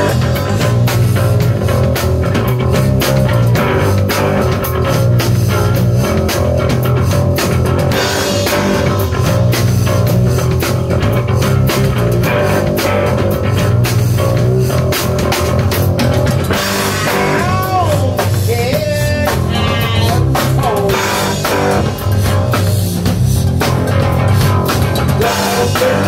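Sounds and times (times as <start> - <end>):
drums: 0.0 - 26.0
electric bass: 0.0 - 26.0
electric guitar lead lines: 0.0 - 26.0.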